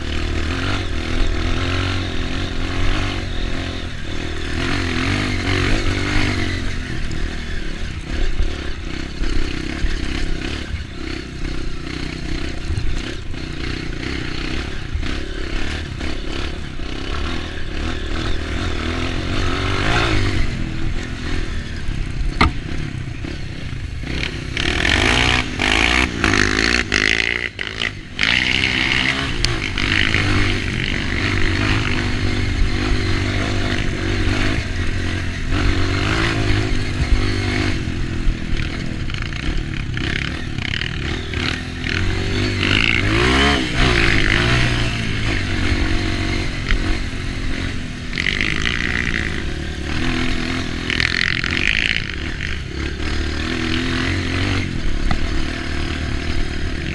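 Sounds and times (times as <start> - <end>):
bike rattling and scraping: 0.0 - 56.9
dirt bike engine revving: 0.0 - 56.9.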